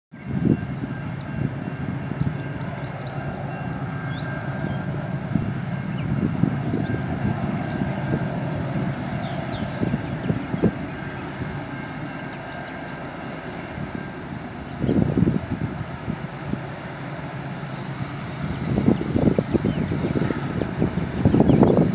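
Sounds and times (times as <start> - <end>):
distant freight train rumbling: 0.1 - 21.9
wind buffeting microphone: 0.2 - 21.9.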